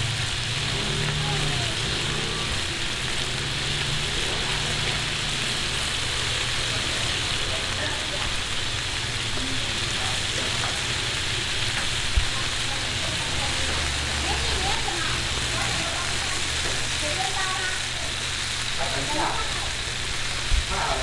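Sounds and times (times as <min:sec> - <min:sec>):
buns sizzling in pan: 0:00.0 - 0:21.0.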